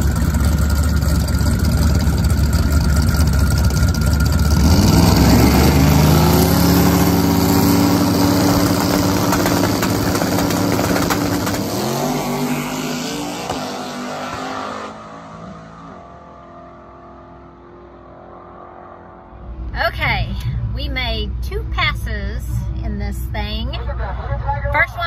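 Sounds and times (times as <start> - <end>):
loud engine accelerating: 0.0 - 21.8.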